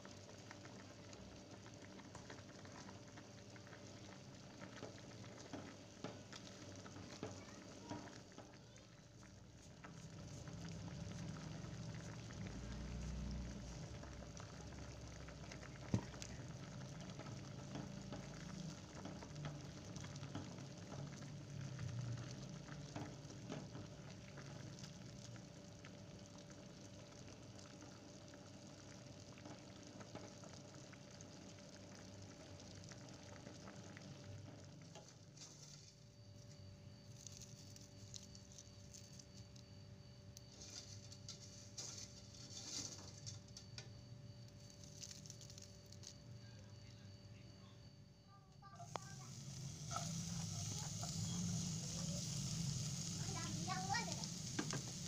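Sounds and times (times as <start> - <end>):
soup bubbling in pot: 0.0 - 55.0.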